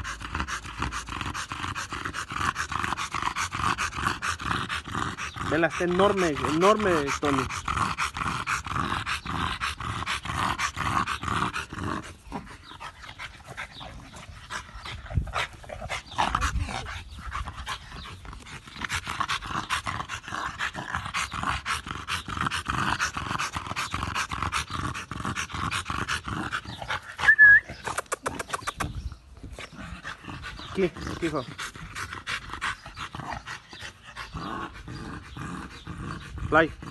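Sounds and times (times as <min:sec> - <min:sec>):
dog panting heavily: 0:00.0 - 0:36.9.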